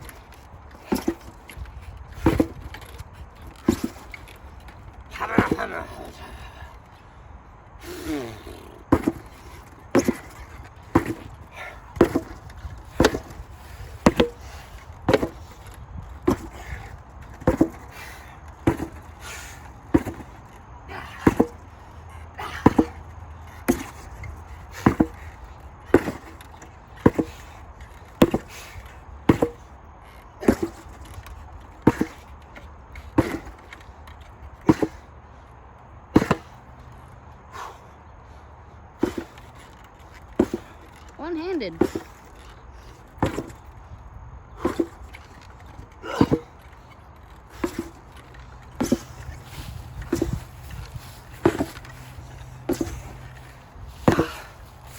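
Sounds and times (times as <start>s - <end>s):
sledgehammer blows: 0.0s - 7.0s, 7.8s - 29.8s, 30.4s - 35.1s, 36.0s - 38.0s, 44.6s - 54.9s.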